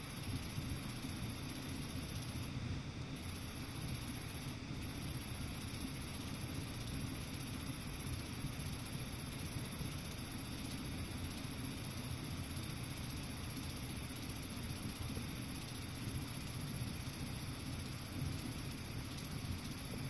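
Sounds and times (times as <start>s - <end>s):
air conditioner running: 0.0s - 20.0s.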